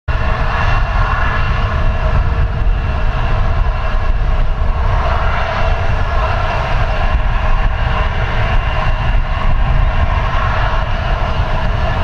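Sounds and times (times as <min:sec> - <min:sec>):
jet engines roaring at takeoff: 0:00.1 - 0:12.0.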